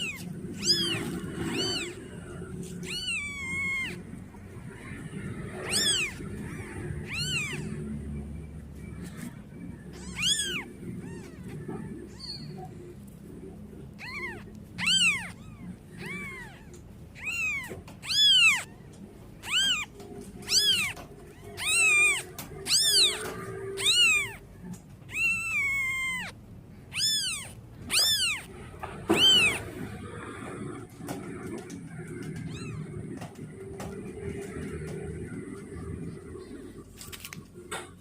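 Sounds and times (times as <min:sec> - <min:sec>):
kitten mewing: 0:00.0 - 0:30.8, 0:31.5 - 0:33.3.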